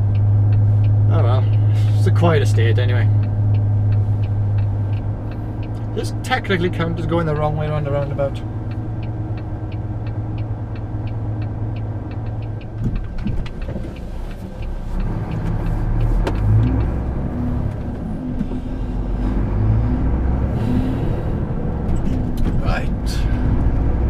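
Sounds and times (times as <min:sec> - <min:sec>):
diesel engine running: 0:00.0 - 0:24.0
regular ticking: 0:00.0 - 0:24.0.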